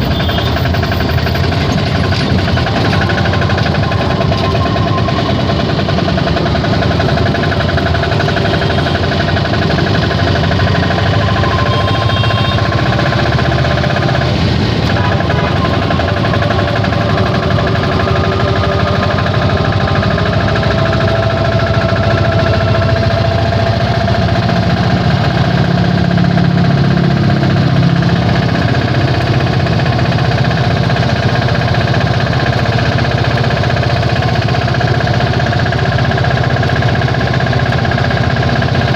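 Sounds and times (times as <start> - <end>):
auto rickshaw engine chugging: 0.0 - 38.9.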